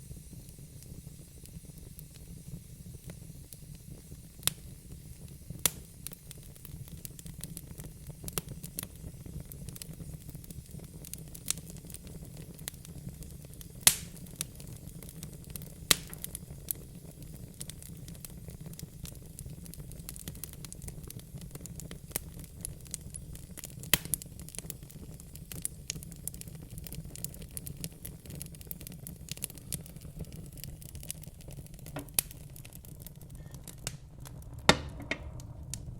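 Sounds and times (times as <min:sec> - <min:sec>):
low rumble of burning: 0:00.0 - 0:35.9
wood fire pops and snaps: 0:00.4 - 0:35.9.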